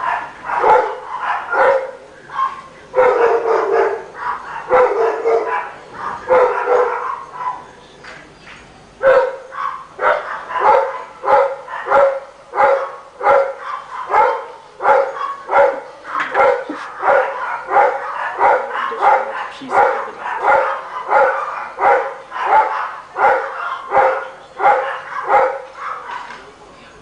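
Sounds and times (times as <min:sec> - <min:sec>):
dog barking: 0:00.0 - 0:07.7, 0:09.0 - 0:26.4.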